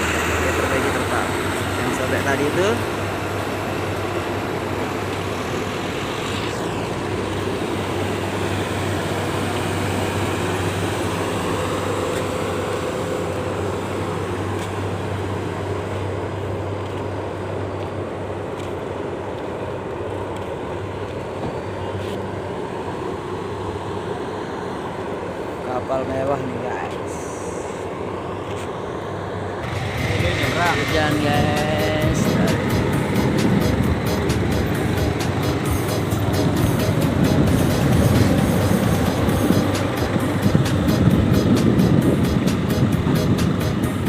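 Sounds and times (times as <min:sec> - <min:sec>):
heavy engines droning: 0:00.0 - 0:44.0.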